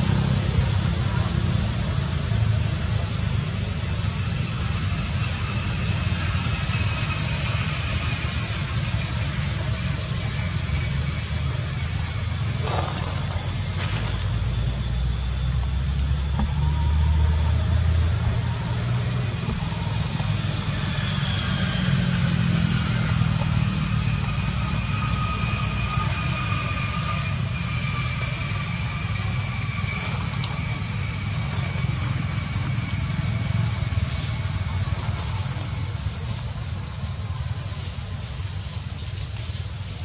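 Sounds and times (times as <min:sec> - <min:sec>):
high-pitched hiss: 0:00.0 - 0:40.0.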